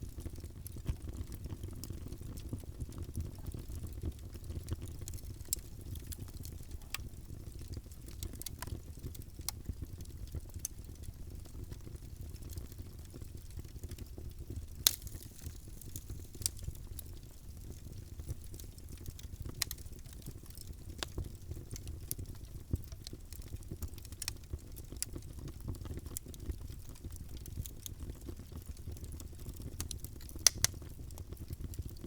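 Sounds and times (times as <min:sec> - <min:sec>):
fire crackling and popping: 0:00.0 - 0:32.0
low rumble of flames: 0:00.0 - 0:32.0.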